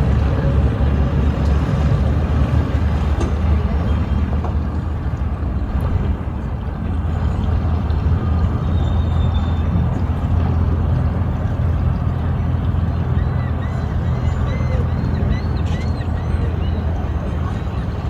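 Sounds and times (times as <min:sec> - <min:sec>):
engine humming steadily: 0:00.0 - 0:18.0.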